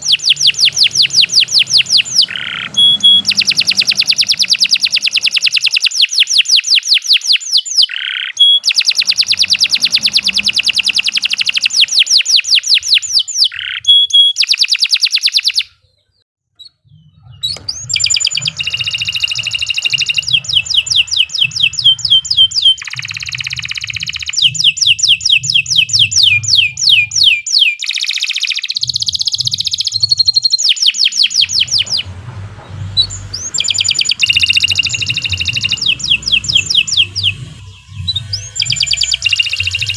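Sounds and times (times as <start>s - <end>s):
canary trilling song: 0.0s - 39.9s.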